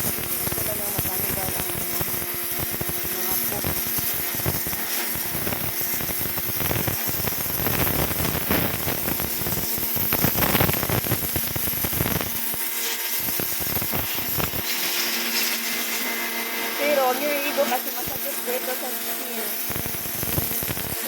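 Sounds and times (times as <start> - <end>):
pressure washer jet hissing: 0.0 - 21.0.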